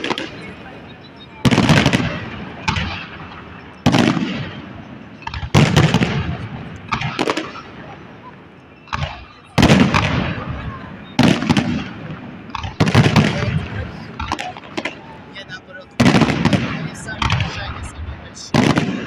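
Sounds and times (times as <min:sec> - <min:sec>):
fireworks bursting with bangs: 0:00.0 - 0:19.0
rumbling echo: 0:00.0 - 0:19.0.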